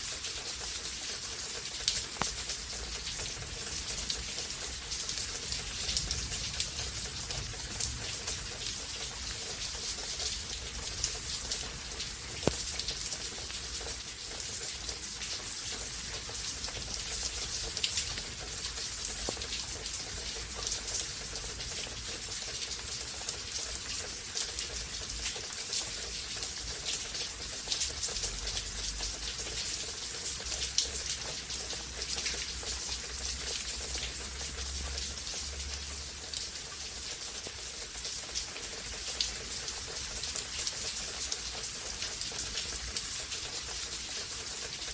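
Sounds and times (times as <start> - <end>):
raindrops tapping close by: 0.0 - 44.9
steady rain hiss: 0.0 - 44.9.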